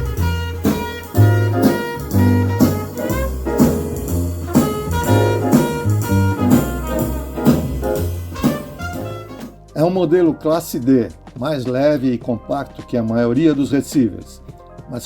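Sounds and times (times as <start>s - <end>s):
upbeat swing jazz: 0.0s - 12.2s.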